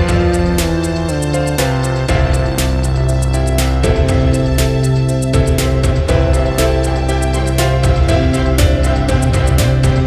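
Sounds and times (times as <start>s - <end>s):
background music with percussion: 0.0s - 10.0s.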